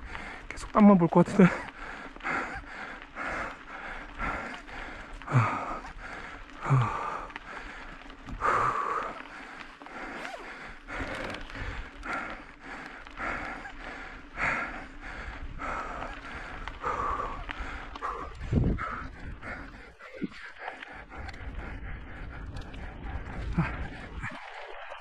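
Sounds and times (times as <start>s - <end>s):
heavy panting breaths: 0.0s - 25.0s.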